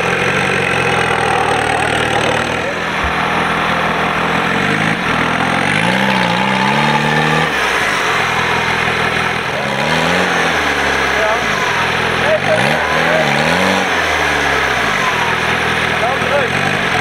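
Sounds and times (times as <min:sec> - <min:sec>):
off-road engine revving: 0:00.0 - 0:17.0.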